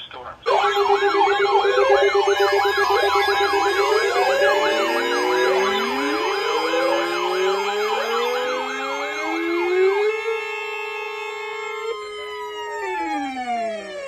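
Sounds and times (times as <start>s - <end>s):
steady alarm tones: 0.4s - 14.0s
fast warbling siren sweep: 0.5s - 14.0s
rising glides: 0.5s - 14.0s.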